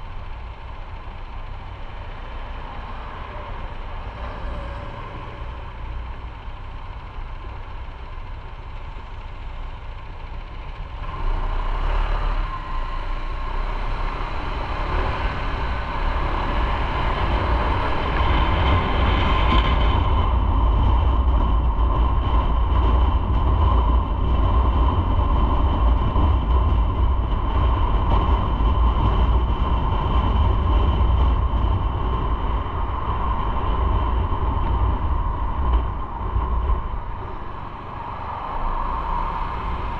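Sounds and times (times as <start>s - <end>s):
motorcycle engine: 0.0s - 39.9s
road and wind noise: 0.0s - 39.9s.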